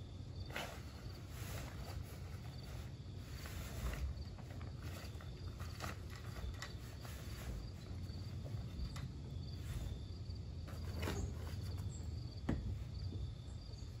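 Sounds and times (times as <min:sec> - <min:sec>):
crickets chirping: 0:00.0 - 0:14.0
rigging knocks and rustles: 0:00.4 - 0:14.0.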